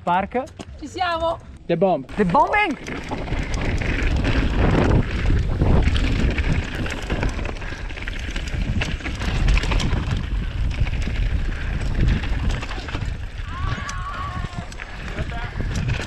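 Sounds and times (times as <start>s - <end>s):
bike rattling clicks: 0.3s - 0.9s, 2.1s - 16.0s
wind buffeting microphone: 0.7s - 16.0s
bike tyre noise: 2.1s - 16.0s.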